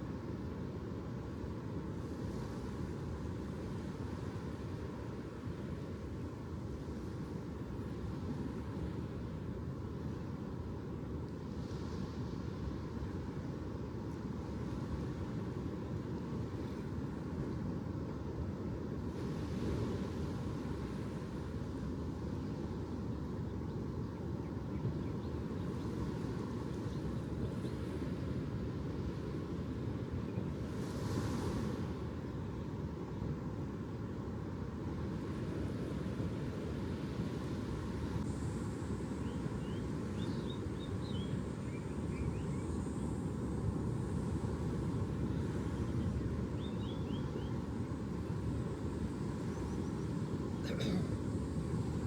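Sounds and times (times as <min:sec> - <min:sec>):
wind: 0:00.0 - 0:52.0.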